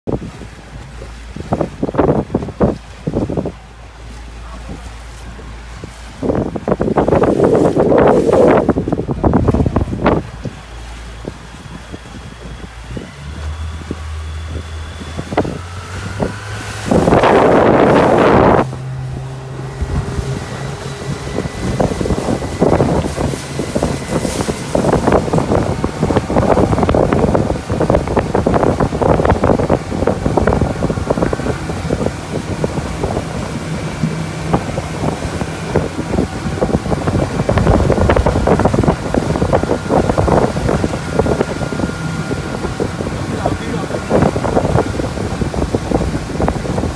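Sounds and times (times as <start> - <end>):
outboard motor running: 0.0 - 46.9
wind buffeting microphone: 0.0 - 46.9
hull knocking over waves: 0.1 - 46.9.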